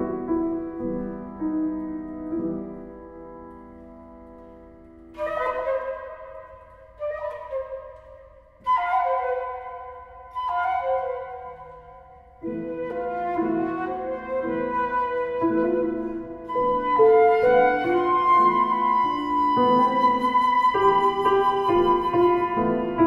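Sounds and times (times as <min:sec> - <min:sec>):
flute and piano chamber music: 0:00.0 - 0:23.0.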